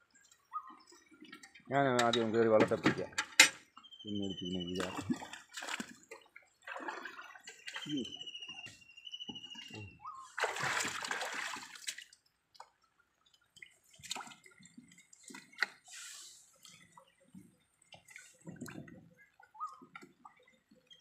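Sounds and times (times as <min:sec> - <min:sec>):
water splashing around boat: 0:00.0 - 0:21.0.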